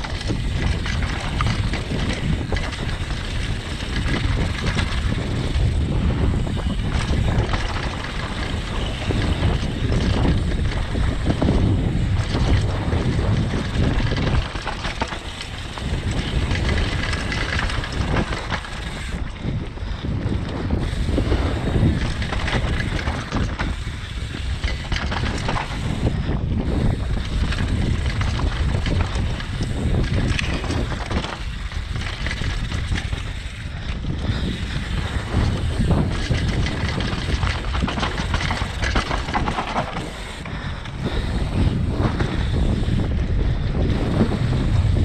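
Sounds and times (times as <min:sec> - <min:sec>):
tyres rolling over dirt: 0:00.0 - 0:19.5, 0:20.8 - 0:43.0
bike rattling and knocking: 0:00.0 - 0:45.0
wind buffeting microphone: 0:00.0 - 0:45.0.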